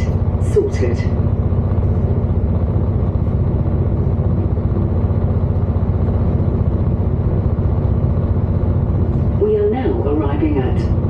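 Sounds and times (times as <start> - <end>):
train rumbling inside cabin: 0.0 - 11.0.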